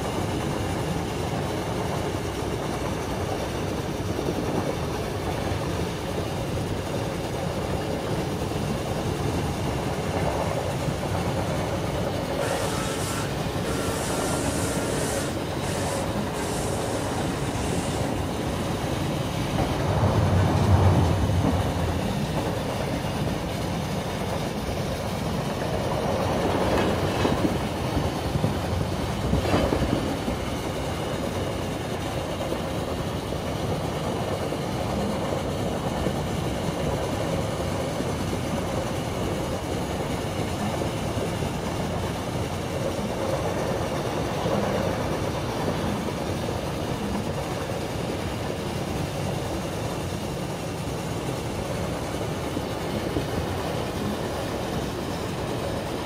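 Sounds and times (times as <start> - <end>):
train wheels rumbling clickety-clack: 0.0 - 56.0.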